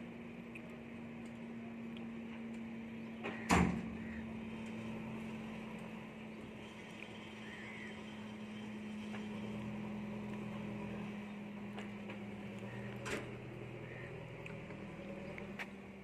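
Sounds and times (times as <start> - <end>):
locomotive humming: 0.0 - 16.0.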